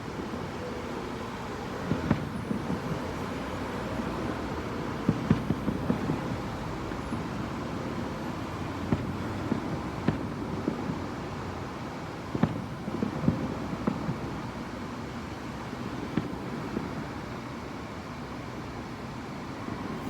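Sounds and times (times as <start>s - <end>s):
muffled distant fireworks: 0.0s - 20.0s.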